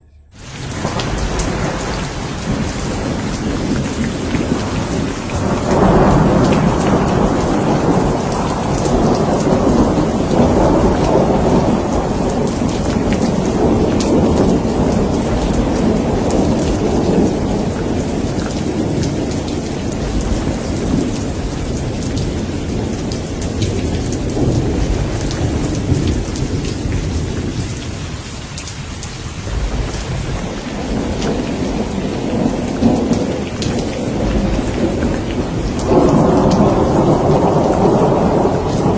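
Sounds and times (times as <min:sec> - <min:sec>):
rolling thunder rumble: 0:00.0 - 0:38.9
heavy rain falling: 0:00.3 - 0:38.9.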